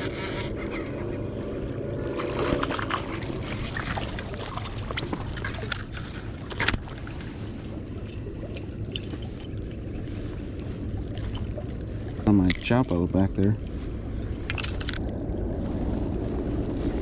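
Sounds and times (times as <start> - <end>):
steady low rumble: 0.0 - 17.0
water sloshing around kayak: 0.0 - 17.0.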